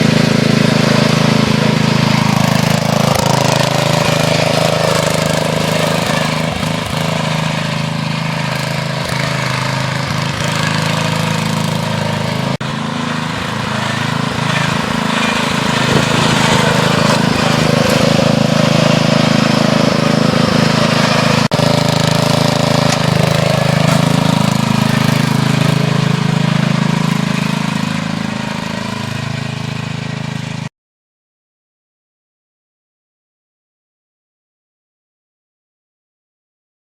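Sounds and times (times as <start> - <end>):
lawn tractor engine running: 0.0 - 30.7.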